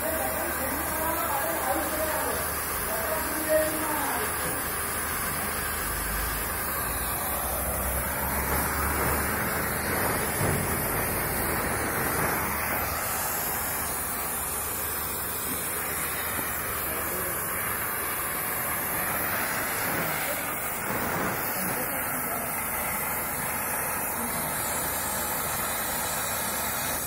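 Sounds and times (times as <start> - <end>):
cutting torch hissing: 0.0 - 27.0.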